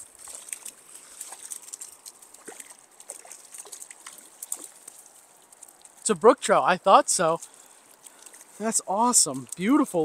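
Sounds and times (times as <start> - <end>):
small ticks and clicks: 0.0 - 6.1, 7.2 - 8.6, 9.2 - 9.8
stream water trickling: 0.0 - 10.0.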